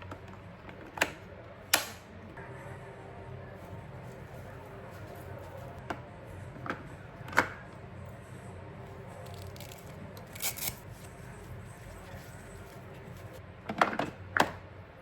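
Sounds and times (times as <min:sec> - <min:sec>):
steady low hum: 0:01.3 - 0:13.6.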